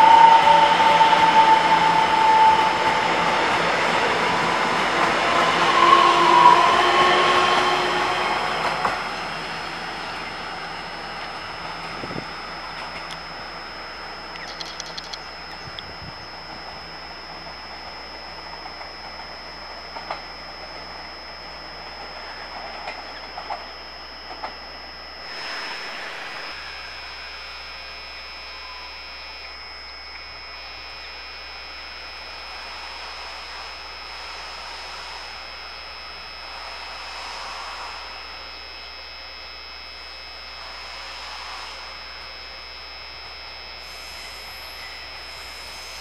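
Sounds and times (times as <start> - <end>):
approaching train running noise: 0.0 - 38.9, 40.0 - 42.6
steady high whine: 0.0 - 46.0.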